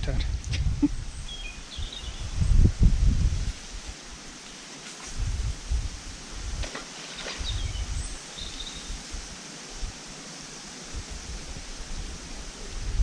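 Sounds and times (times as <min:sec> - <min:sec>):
wind buffeting microphone: 0:00.0 - 0:04.2, 0:05.1 - 0:10.0, 0:10.8 - 0:13.0
steady hiss: 0:00.0 - 0:13.0
wind rustling leaves: 0:00.0 - 0:13.0.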